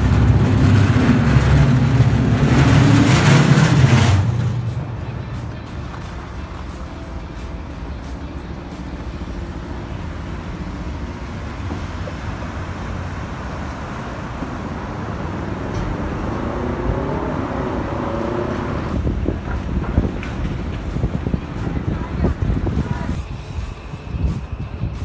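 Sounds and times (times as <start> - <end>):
engine pitch gliding: 0.0 - 23.2
cars passing on busy street: 0.0 - 25.0.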